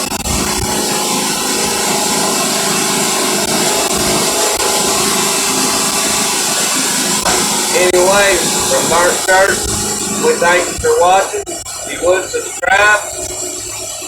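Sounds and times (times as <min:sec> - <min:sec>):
band sawmill sawing log: 0:00.0 - 0:14.0.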